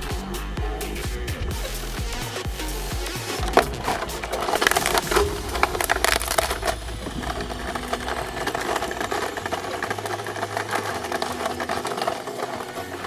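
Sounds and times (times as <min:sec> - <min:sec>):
shredding machine grinding toy: 0:00.2 - 0:13.0.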